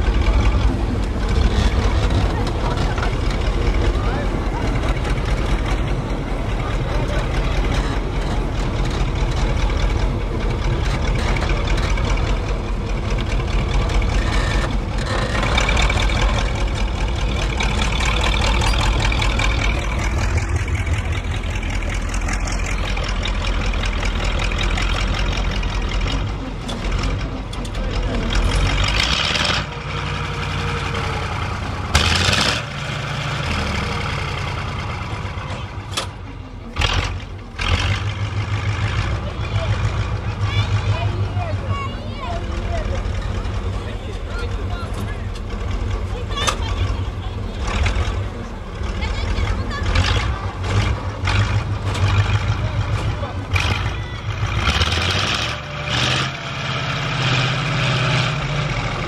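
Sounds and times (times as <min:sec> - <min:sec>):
tracked vehicle engine rumbling: 0:00.0 - 0:59.0.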